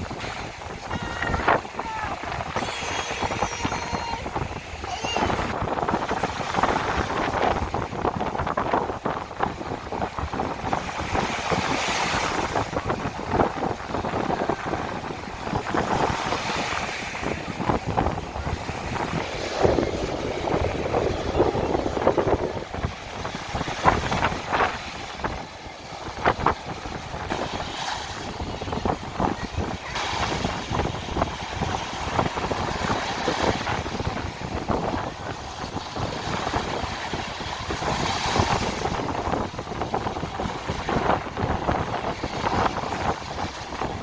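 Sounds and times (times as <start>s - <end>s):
sea waves washing ashore: 0.0s - 44.0s
wind rumbling on microphone: 0.0s - 44.0s.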